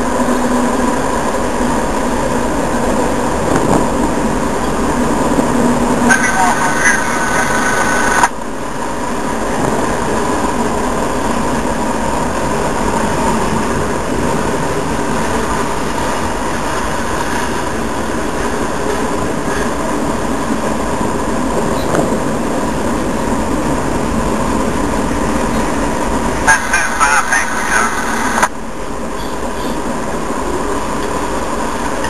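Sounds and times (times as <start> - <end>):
train wheels rolling on rails: 0.0 - 32.0.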